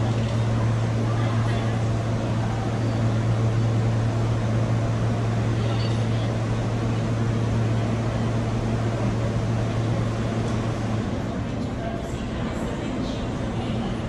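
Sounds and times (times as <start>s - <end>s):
subway station drone: 0.0s - 14.0s.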